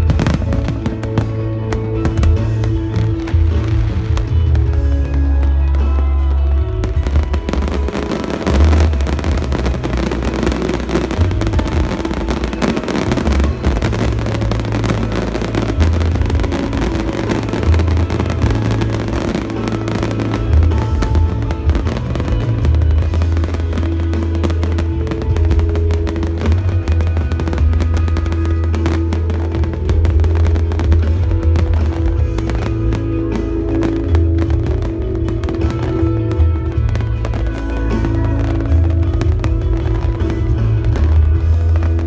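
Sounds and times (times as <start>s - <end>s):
fireworks bursting and crackling: 0.0s - 42.0s
loud music with heavy bass: 0.0s - 42.0s.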